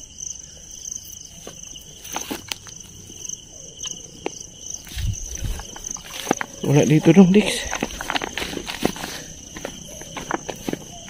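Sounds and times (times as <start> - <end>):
crickets chirring: 0.0 - 11.0
brush crackling and snapping: 1.4 - 11.0.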